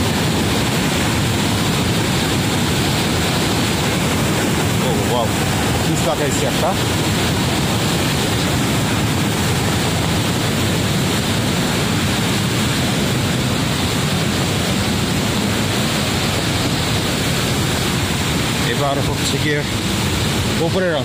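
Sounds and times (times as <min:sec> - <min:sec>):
rocky stream rushing: 0:00.0 - 0:21.0.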